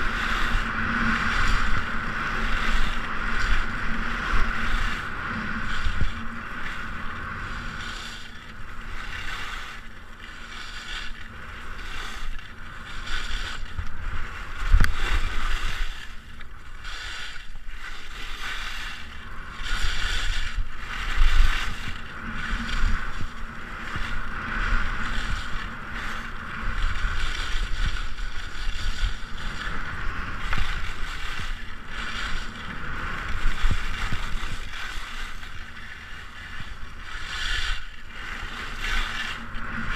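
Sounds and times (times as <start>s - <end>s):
wind buffeting microphone: 0.0s - 10.0s, 10.6s - 39.9s
skis scraping over hard snow: 0.0s - 39.9s.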